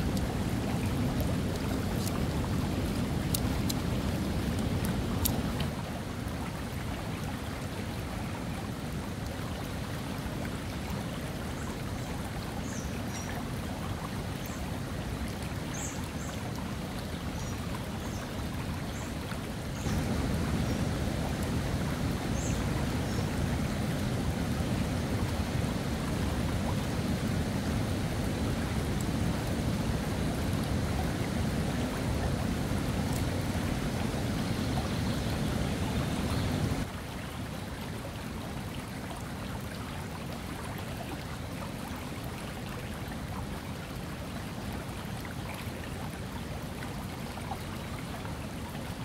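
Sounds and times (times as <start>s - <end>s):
river rushing over rapids: 0.0s - 49.0s.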